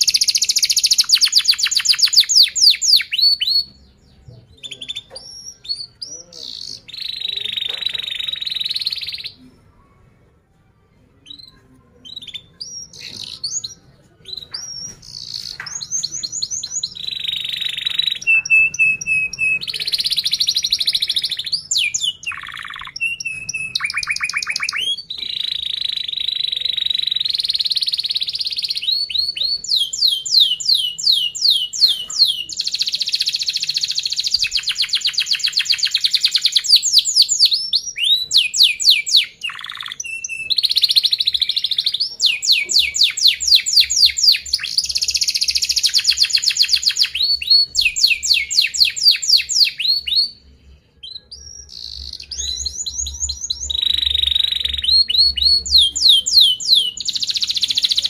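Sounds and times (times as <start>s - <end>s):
canary singing: 0.0s - 10.4s, 11.0s - 58.0s.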